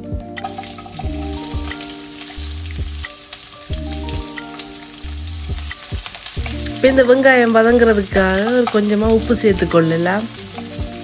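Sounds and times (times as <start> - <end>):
background music with held notes: 0.0 - 11.0
onions sizzling in hot oil: 0.0 - 11.0.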